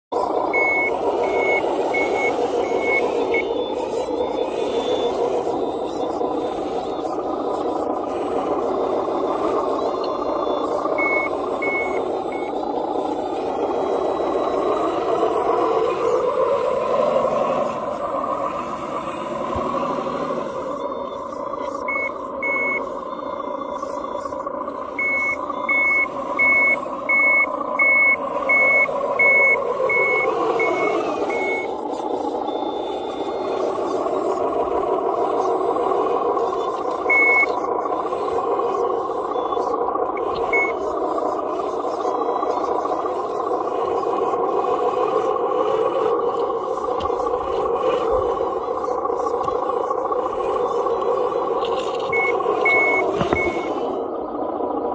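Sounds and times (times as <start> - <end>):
toy loader motor whirring: 0.1 - 53.9
reverse alarm beeping: 0.1 - 54.9.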